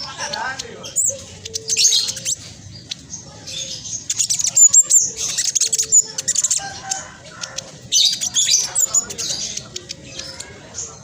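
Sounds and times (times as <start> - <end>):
bird chattering song: 0.0 - 11.0.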